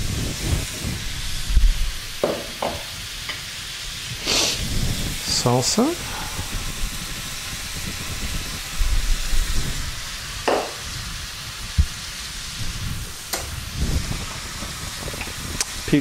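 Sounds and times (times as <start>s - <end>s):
meat and peppers sizzling in pan: 0.0s - 16.0s.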